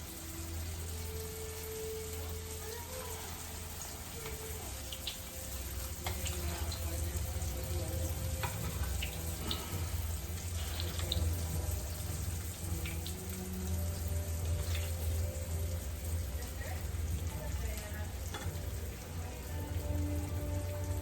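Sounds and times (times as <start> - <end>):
food sizzling in hot oil: 0.0 - 21.0
oil popping and crackling: 0.0 - 21.0.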